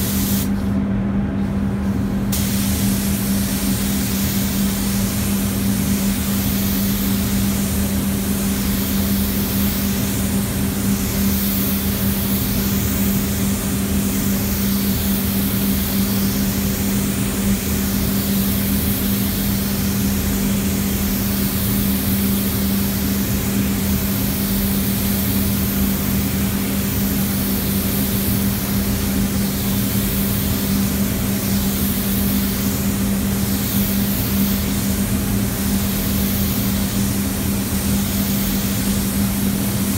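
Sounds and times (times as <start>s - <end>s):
spray gun hissing: 0.0s - 0.7s, 2.3s - 39.9s
ventilation hum: 0.0s - 39.9s.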